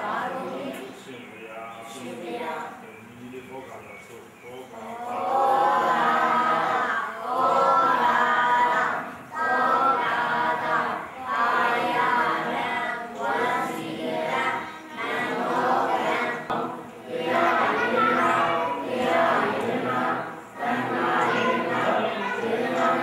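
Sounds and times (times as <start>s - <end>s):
many voices chanting in unison: 0.0s - 1.2s, 1.8s - 2.8s, 4.7s - 23.0s.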